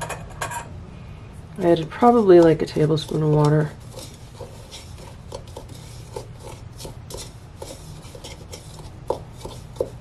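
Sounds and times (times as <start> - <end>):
spatula scraping paste in bowl: 1.8 - 10.0.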